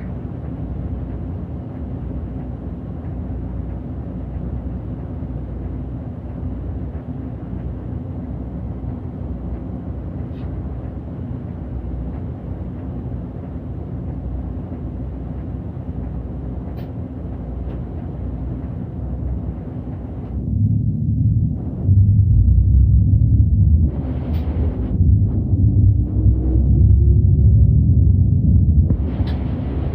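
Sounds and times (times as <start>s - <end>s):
bus diesel engine drone: 0.0s - 29.9s.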